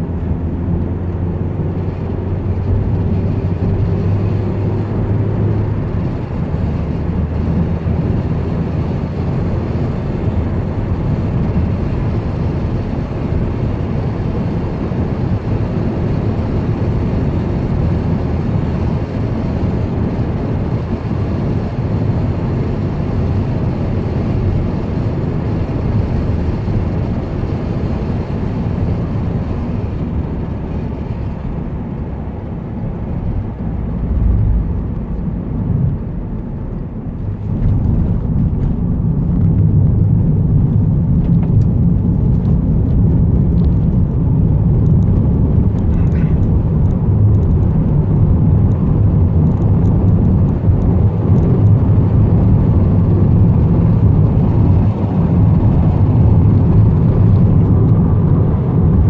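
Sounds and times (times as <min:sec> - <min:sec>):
engine hum: 0:00.0 - 0:59.0
van engine and road rumble: 0:00.0 - 0:59.0.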